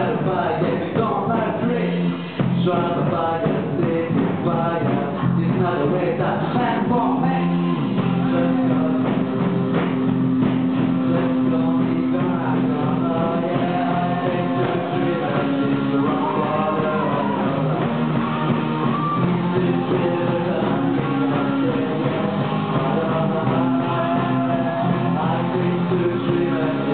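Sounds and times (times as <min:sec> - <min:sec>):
man singing: 0:00.0 - 0:26.9
rock band playing live: 0:00.0 - 0:26.9.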